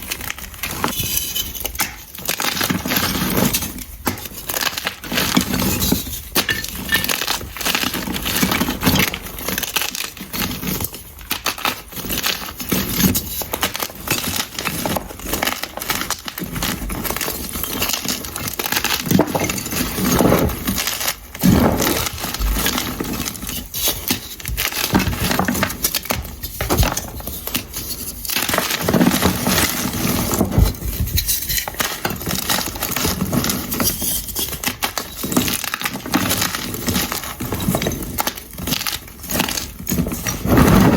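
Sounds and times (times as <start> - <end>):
chalk blocks crushed and crumbled: 0.0 - 40.9.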